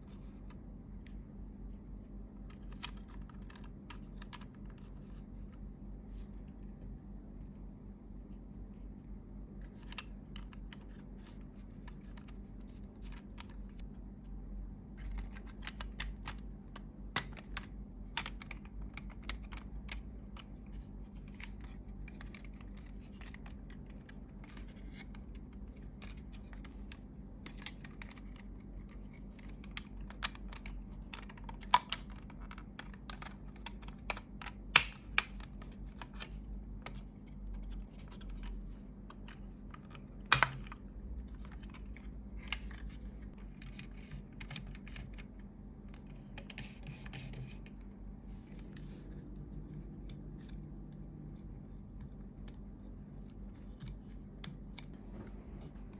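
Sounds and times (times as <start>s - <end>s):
faint low hum: 0.0s - 55.9s
small parts and tools clicking: 2.4s - 8.2s, 9.6s - 51.0s.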